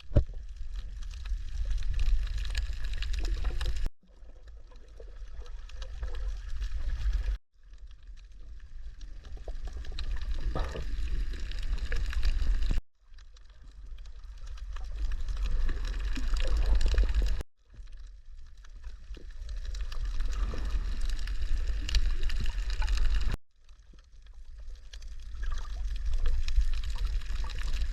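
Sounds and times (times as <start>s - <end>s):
underwater rumble and bubbling: 0.0s - 27.9s.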